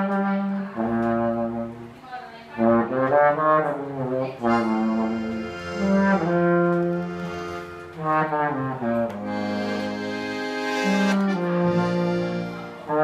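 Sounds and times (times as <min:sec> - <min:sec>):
brass instruments playing chords: 0:00.0 - 0:02.0, 0:02.6 - 0:13.0.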